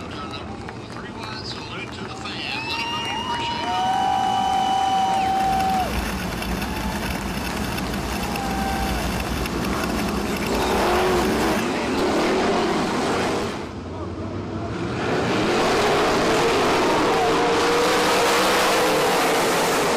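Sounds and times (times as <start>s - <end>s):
racing car engines revving: 3.7s - 19.9s.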